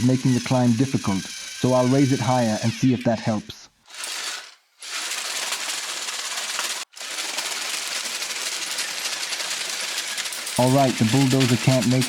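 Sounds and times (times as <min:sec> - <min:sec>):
toy tracks clattering over stones: 0:00.0 - 0:02.8, 0:03.8 - 0:12.0.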